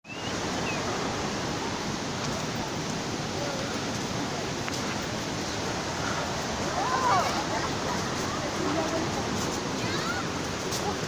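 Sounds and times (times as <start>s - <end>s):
waterfall roaring: 0.1s - 11.0s
faint voices: 0.6s - 11.0s.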